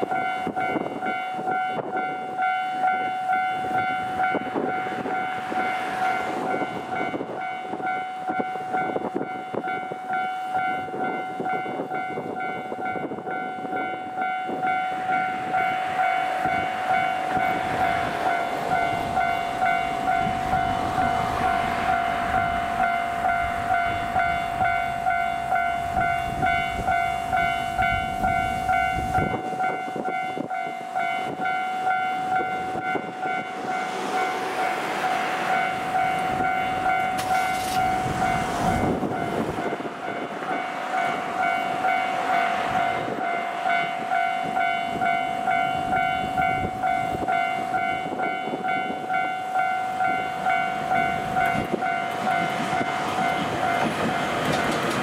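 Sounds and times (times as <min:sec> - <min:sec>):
diesel locomotive approaching: 0:00.0 - 0:55.0
level-crossing bell dinging: 0:00.0 - 0:55.0.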